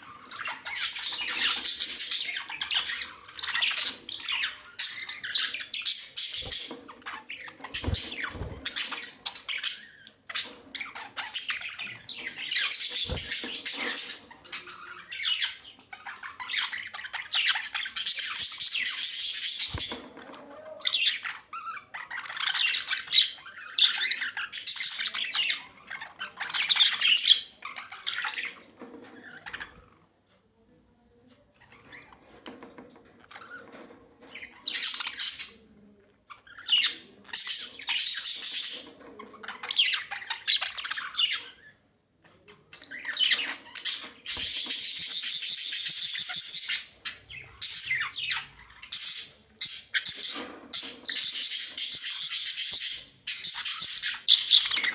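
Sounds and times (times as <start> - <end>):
budgerigars chattering and squawking: 0.0 - 30.0, 33.1 - 35.8, 36.4 - 41.8, 42.4 - 54.9.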